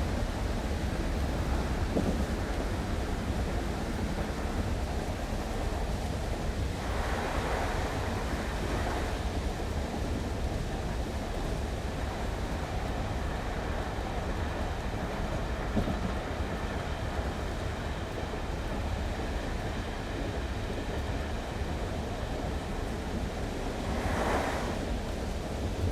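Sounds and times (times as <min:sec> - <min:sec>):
diesel train rumble: 0:00.0 - 0:25.9
station background noise: 0:00.0 - 0:25.9.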